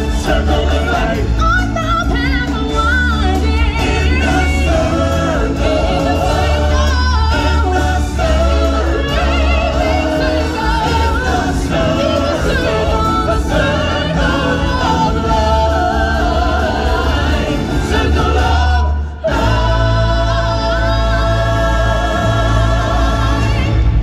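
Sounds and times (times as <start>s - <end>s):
choir and solo voices singing: 0.0s - 24.0s.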